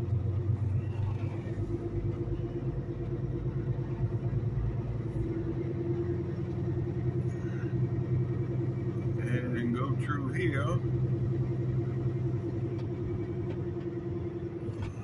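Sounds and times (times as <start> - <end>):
truck diesel engine humming: 0.0 - 15.0.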